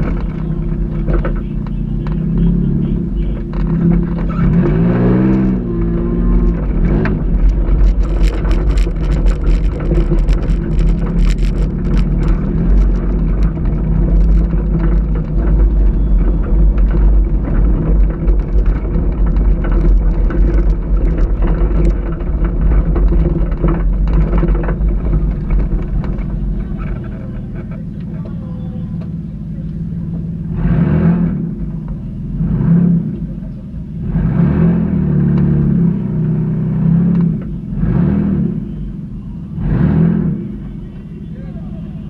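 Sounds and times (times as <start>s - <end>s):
car bouncing with knocks and rattles: 0.0s - 42.0s
car engine running hard: 0.0s - 42.0s.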